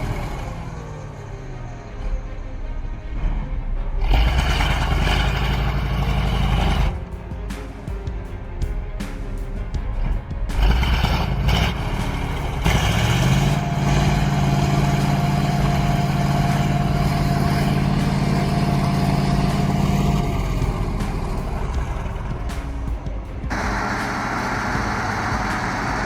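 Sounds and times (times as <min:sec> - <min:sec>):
heavy vehicle engine revving: 0:00.0 - 0:07.8, 0:08.6 - 0:26.0.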